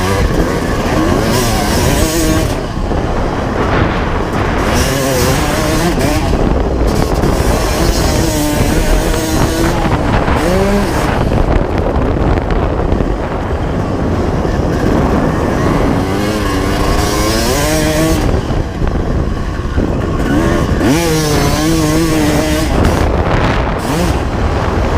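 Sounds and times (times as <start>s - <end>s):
two-stroke motorcycle engine revving: 0.0s - 24.9s
wind on microphone: 0.0s - 24.9s.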